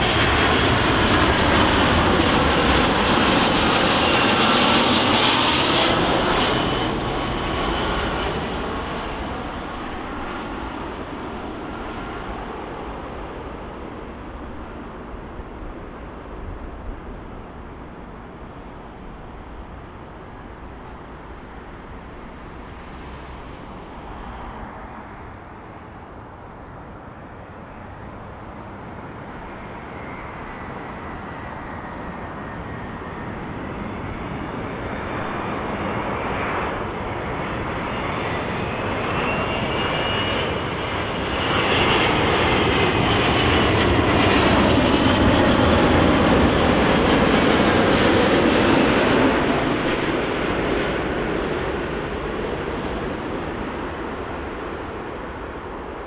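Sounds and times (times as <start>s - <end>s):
high engine whine: 0.0s - 56.0s
jet airliner engine noise: 0.0s - 56.0s.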